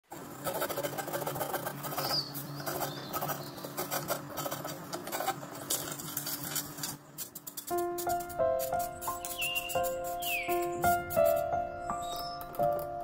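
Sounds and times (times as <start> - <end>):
tool scratching on paper: 0.1 - 12.4.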